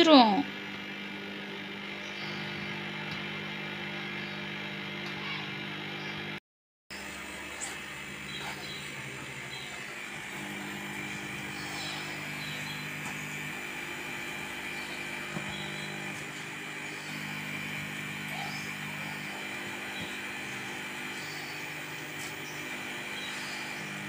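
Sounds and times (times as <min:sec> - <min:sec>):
mechanical hum with high whine: 0:00.0 - 0:24.0.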